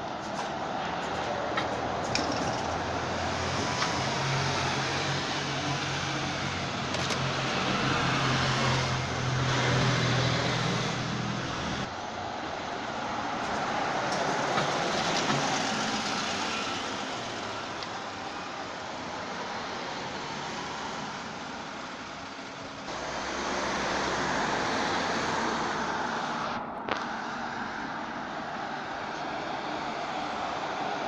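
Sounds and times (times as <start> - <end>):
bus engine hum: 0.0 - 31.0
street traffic noise: 0.0 - 31.0.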